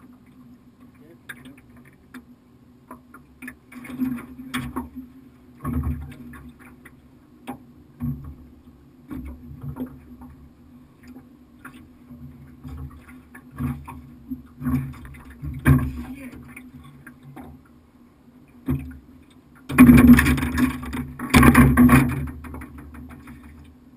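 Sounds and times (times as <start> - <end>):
waves slapping metal boat hull: 0.0 - 23.9.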